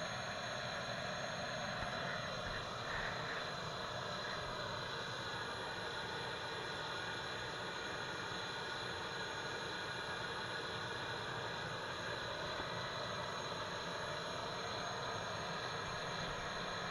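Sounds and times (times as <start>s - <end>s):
gas turbine whine and hiss: 0.0s - 16.9s.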